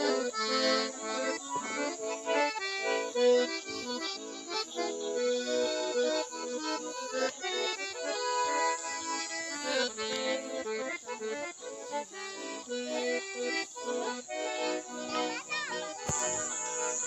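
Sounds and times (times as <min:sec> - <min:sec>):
accordion music: 0:00.0 - 0:17.0.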